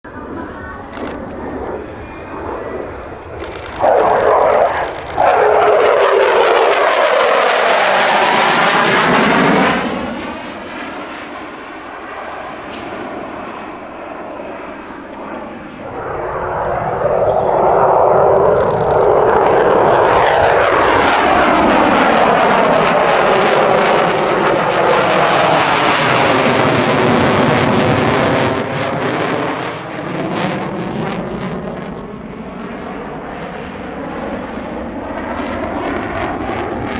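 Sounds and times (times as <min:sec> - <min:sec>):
fighter jet engine roaring: 0:00.0 - 0:36.9.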